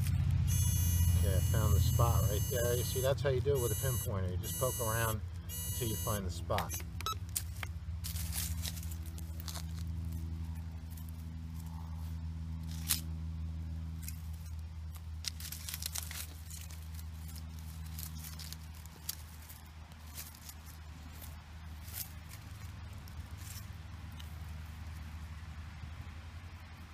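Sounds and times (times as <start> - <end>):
dirt and roots scraping: 0.0 - 25.6
steady low hum: 0.0 - 26.9.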